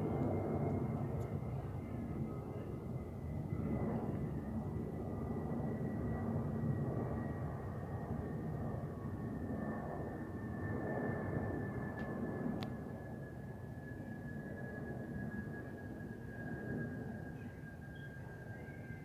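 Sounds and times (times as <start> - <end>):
airplane engine rumble: 0.0 - 19.0.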